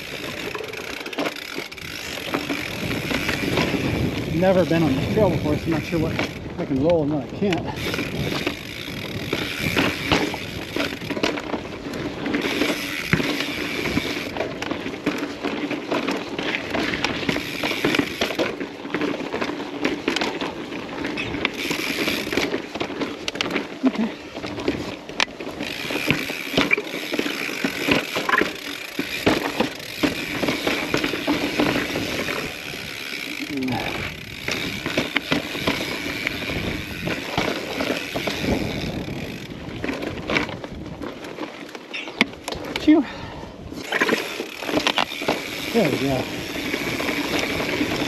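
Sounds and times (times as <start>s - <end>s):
bike knocking on rock ledges: 0.0s - 23.8s, 24.4s - 42.9s
bike chain and frame rattling: 0.0s - 48.0s
bike tyres rolling on rock: 0.0s - 48.0s.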